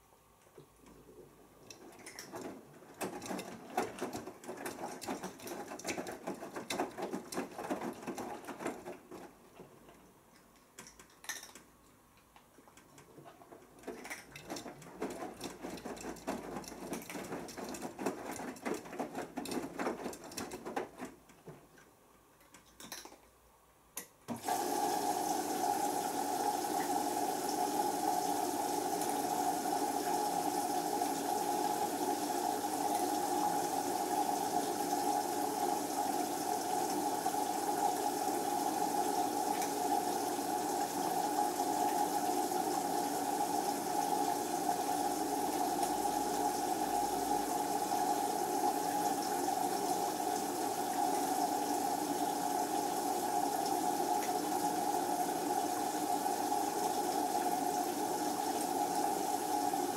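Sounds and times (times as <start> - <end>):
water rushing into washer: 1.7 - 9.7, 13.7 - 21.2, 24.3 - 59.9.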